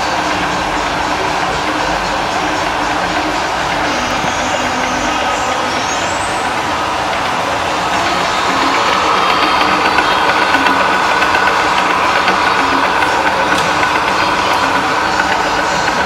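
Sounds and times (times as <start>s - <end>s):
lathe humming and whirring: 0.0s - 16.0s.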